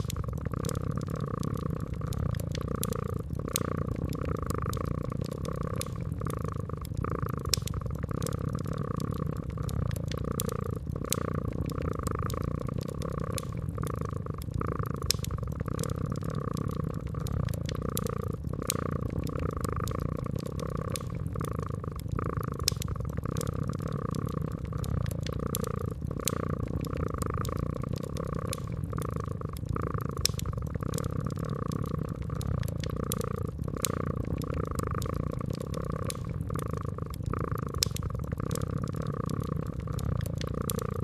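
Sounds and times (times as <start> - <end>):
cat purring: 0.0 - 41.0
wood fire crackling and popping: 0.0 - 41.0.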